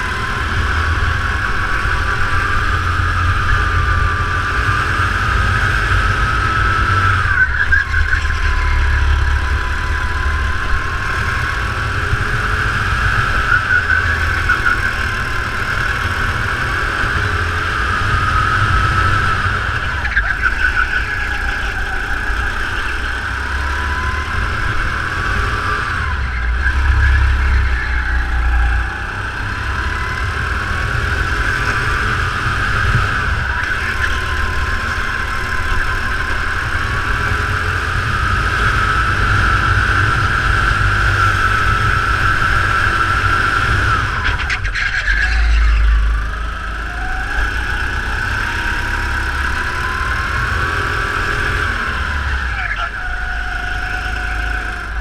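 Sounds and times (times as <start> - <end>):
go-kart engine: 0.0 - 55.0.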